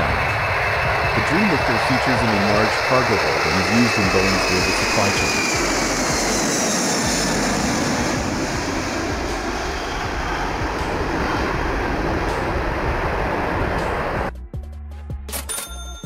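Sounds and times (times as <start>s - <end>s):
high engine whine: 0.0s - 14.3s
jet engines roaring: 0.0s - 14.3s.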